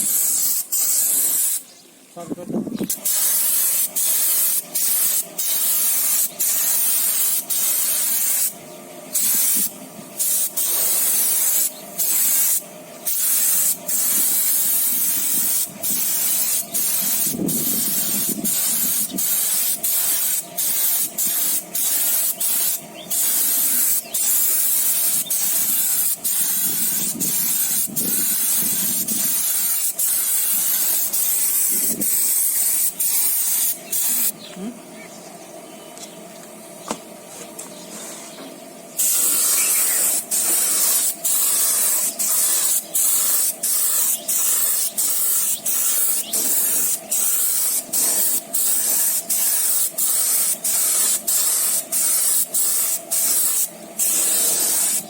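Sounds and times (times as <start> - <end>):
spray gun hissing: 0.0 - 1.6, 2.8 - 34.4, 39.0 - 55.0.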